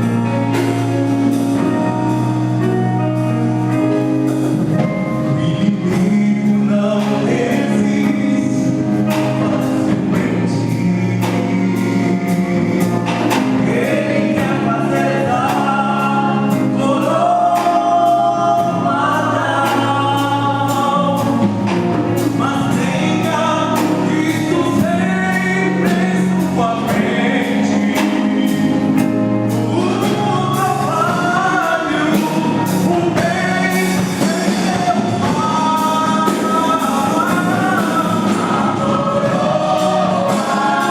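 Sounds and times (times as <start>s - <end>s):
steady drum beat: 0.0s - 40.9s
voices singing with a band: 0.0s - 40.9s.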